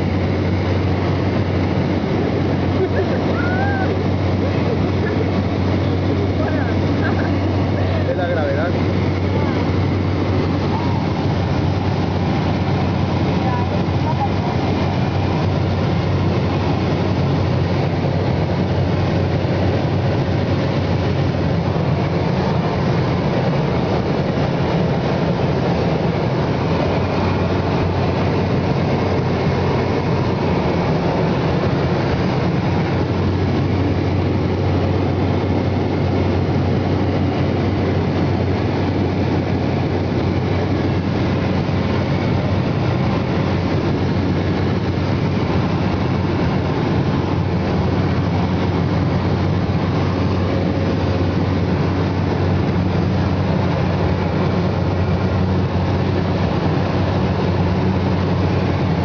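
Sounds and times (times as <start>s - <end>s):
vehicle engine drone: 0.0s - 59.0s.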